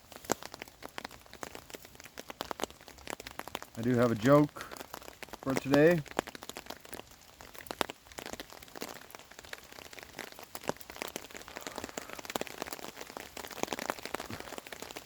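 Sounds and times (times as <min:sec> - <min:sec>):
rain falling: 0:00.0 - 0:15.0
raindrops ticking on surfaces: 0:00.0 - 0:15.0.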